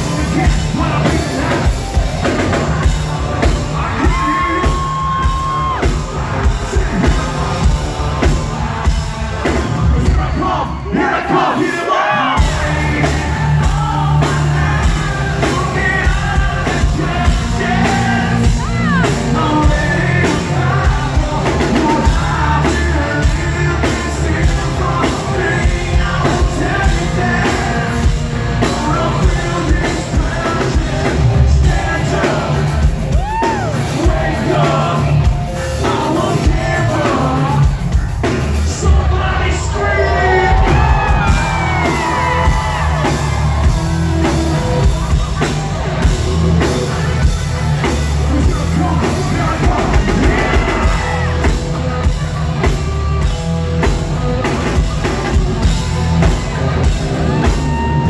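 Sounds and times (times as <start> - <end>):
bass: 0.0 - 58.0
drums: 0.0 - 58.0.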